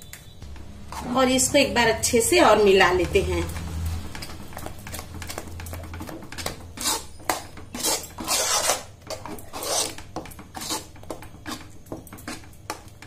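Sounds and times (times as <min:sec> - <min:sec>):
metal spoon scraping metal pan: 0:00.8 - 0:01.6, 0:02.5 - 0:13.0.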